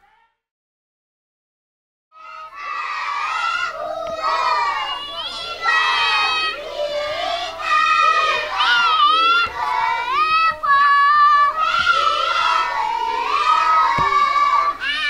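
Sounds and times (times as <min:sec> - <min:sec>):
children singing and shouting: 0:02.2 - 0:15.0.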